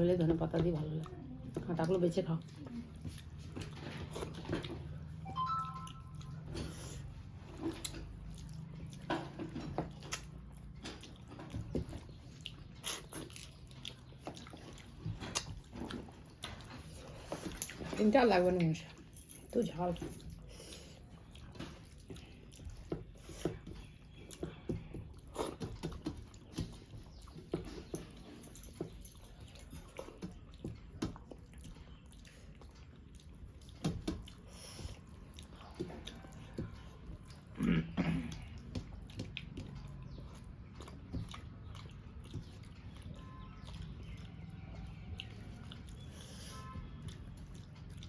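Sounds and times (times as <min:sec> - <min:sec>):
person chewing food: 0:02.4 - 0:18.0, 0:18.9 - 0:48.0.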